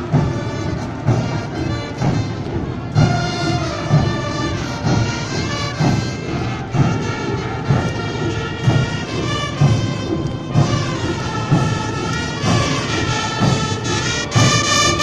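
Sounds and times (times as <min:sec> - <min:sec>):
brass band playing a march: 0:00.0 - 0:15.0
steady drum beat: 0:00.0 - 0:15.0.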